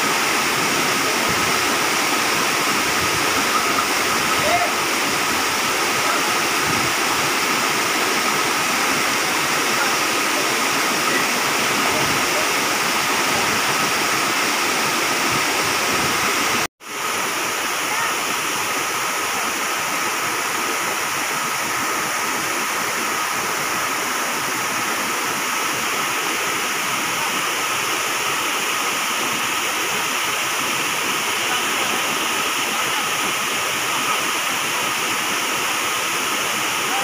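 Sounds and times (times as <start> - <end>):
waterfall and rapids rushing: 0.0 - 37.0.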